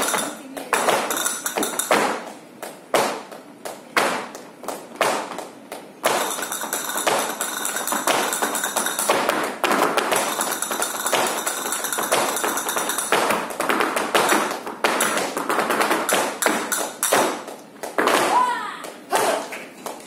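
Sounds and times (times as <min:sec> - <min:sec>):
tap shoes on stage floor: 0:00.0 - 0:20.0.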